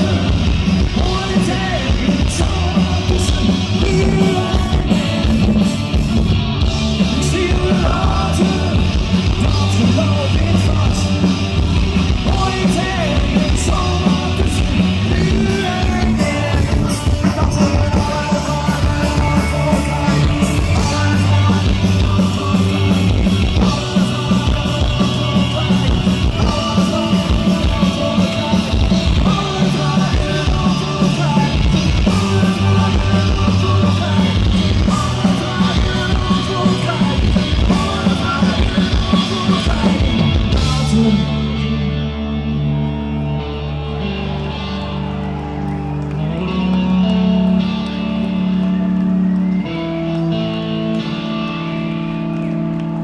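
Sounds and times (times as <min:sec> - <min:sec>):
punk rock band playing live: 0:00.0 - 0:53.0.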